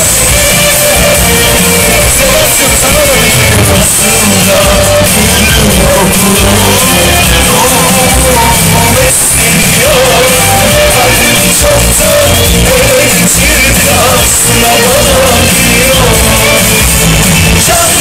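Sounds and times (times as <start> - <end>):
loud live band music: 0.0 - 18.0
person singing: 0.0 - 18.0.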